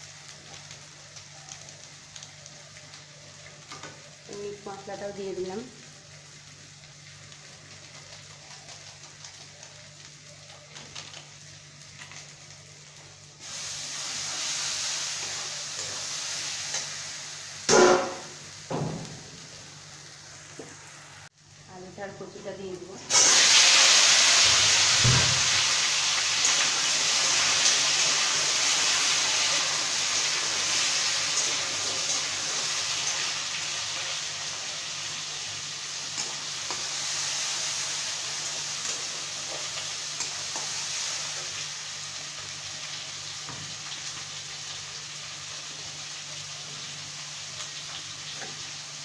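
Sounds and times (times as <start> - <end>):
potatoes sizzling in hot oil: 0.0 - 49.0.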